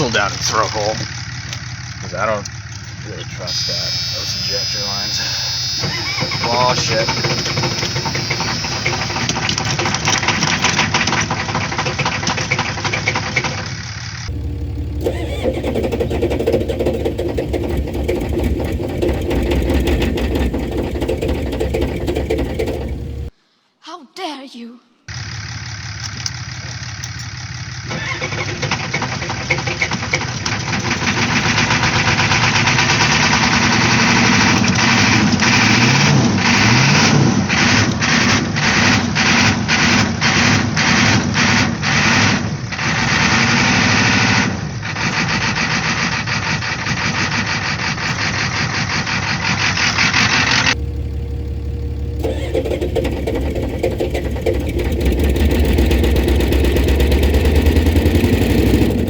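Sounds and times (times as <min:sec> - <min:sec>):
diesel engine running steadily: 0:00.0 - 0:23.3, 0:25.1 - 0:59.0
diesel engine cranking: 0:00.0 - 0:23.4, 0:25.1 - 0:59.0.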